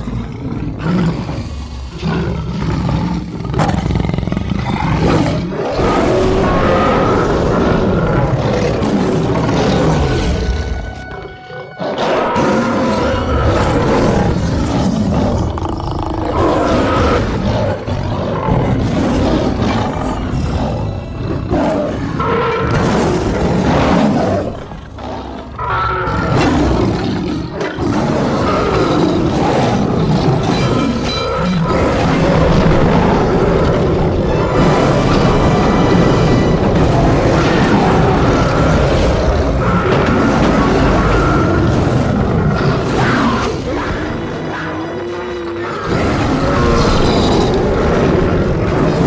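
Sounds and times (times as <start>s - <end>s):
creature roaring and snarling: 0.0s - 10.7s, 11.8s - 49.0s
music: 0.0s - 49.0s.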